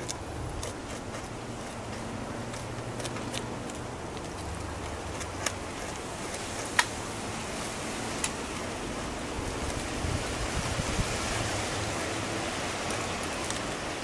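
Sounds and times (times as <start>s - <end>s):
beaver chewing crunches: 0.0s - 7.6s, 8.2s - 14.0s.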